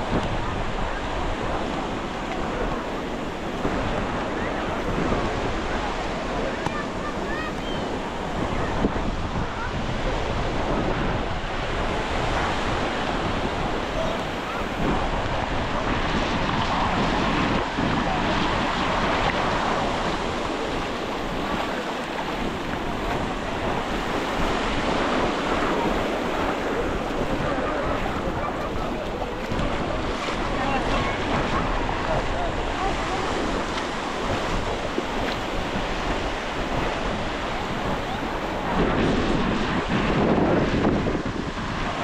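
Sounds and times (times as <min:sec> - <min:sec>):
surf breaking on shore: 0:00.0 - 0:42.0
wind buffeting microphone: 0:00.0 - 0:42.0.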